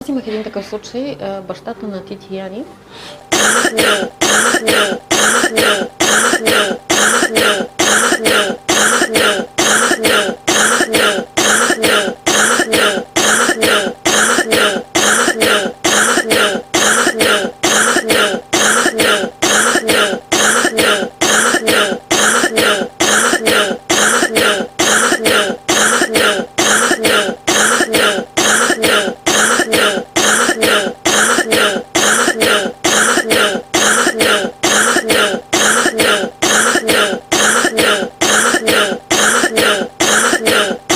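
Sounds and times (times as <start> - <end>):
person coughing: 3.3 - 40.9.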